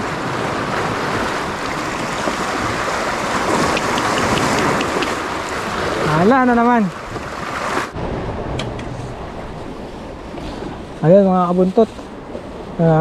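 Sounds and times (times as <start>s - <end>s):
sea waves rushing: 0.0s - 13.0s.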